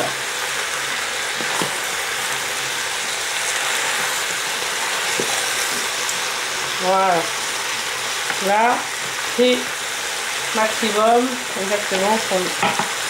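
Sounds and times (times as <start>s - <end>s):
vegetables sizzling: 0.0s - 13.0s.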